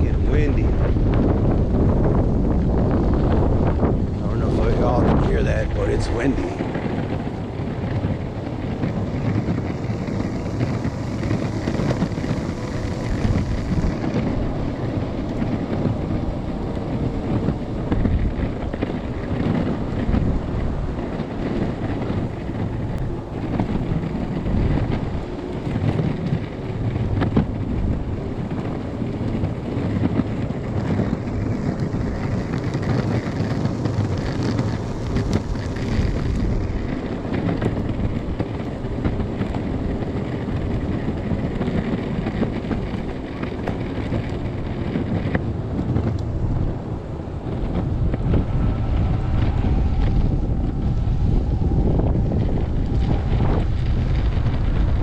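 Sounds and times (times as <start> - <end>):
strong wind buffeting microphone: 0.0 - 55.0.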